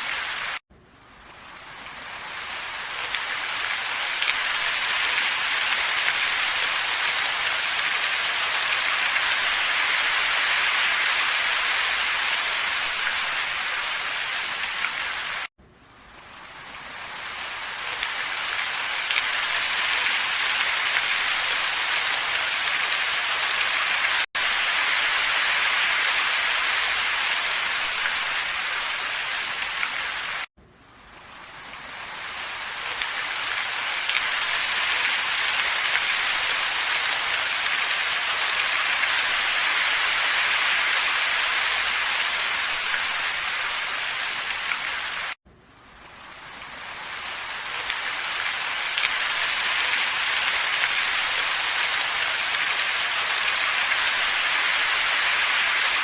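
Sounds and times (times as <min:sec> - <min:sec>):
hissing wind and snowfall ambience: 0:00.0 - 0:56.0.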